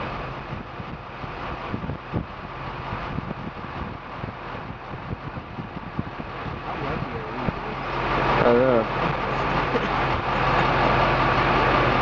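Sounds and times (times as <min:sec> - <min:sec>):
car engine idling: 0:00.0 - 0:12.0
wind buffeting microphone: 0:00.0 - 0:12.0.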